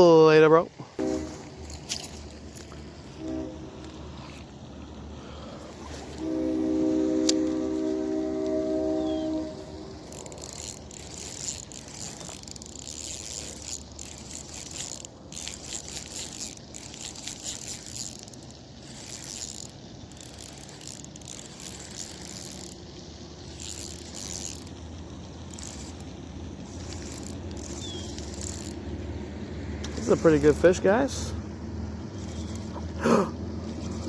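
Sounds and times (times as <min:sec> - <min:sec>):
fishing reel clicking: 0:01.0 - 0:31.2, 0:32.1 - 0:32.8.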